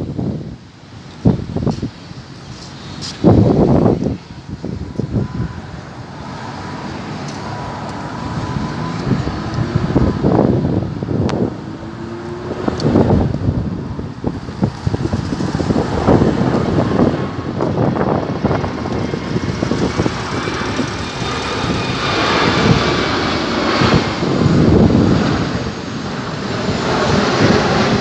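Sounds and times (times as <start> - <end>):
high jet engine whine: 0.0 - 28.0
jet engine rumble: 0.0 - 28.0.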